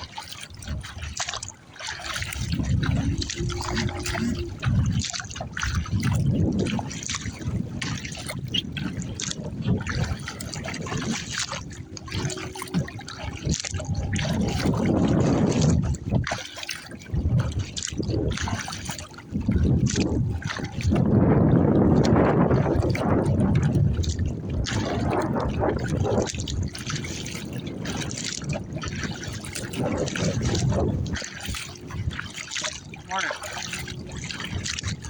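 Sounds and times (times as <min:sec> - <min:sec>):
water splashing against kayak hull: 0:00.0 - 0:35.0
wind rumbling on microphone: 0:00.0 - 0:35.0.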